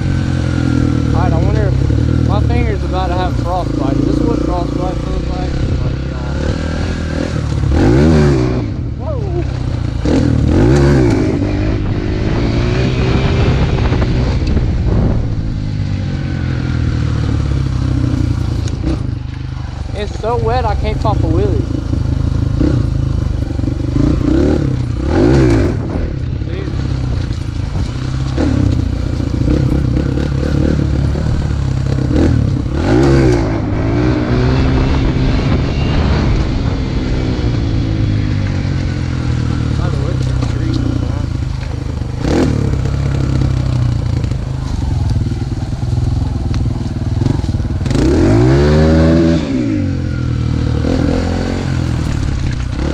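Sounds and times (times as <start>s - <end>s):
dirt bike engine running: 0.0s - 52.9s.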